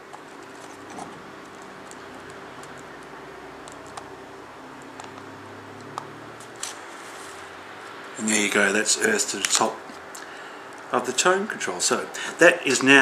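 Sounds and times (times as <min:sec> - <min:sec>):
low hum: 0:00.0 - 0:10.9
background hiss: 0:01.2 - 0:13.0.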